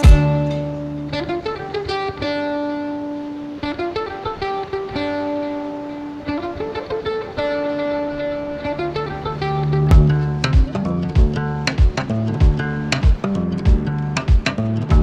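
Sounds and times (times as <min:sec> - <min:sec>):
plucked string melody: 0:00.0 - 0:15.0.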